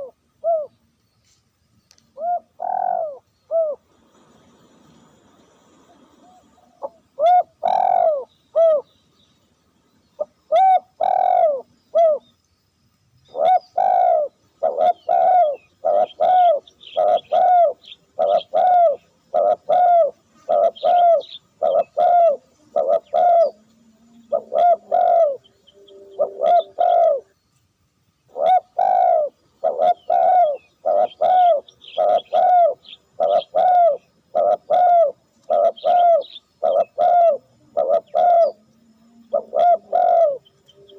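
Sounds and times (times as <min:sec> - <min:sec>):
dove cooing: 0:00.0 - 0:00.8, 0:02.2 - 0:08.9, 0:10.2 - 0:12.3, 0:13.3 - 0:27.4, 0:28.3 - 0:40.9.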